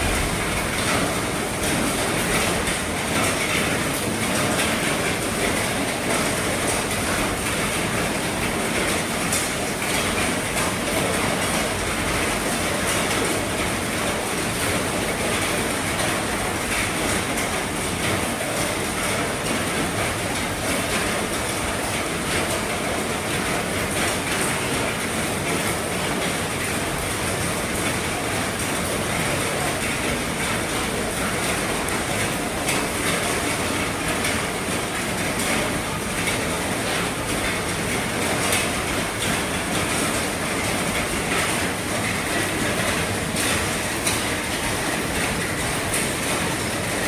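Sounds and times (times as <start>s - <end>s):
heavy rain on a roof: 0.0s - 47.0s.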